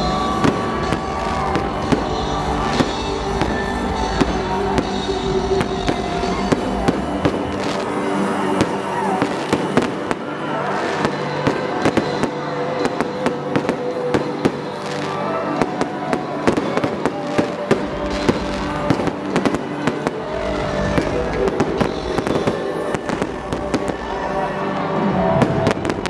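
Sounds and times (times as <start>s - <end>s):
fireworks cracking and banging: 0.0s - 26.0s
music with held notes: 0.0s - 26.0s.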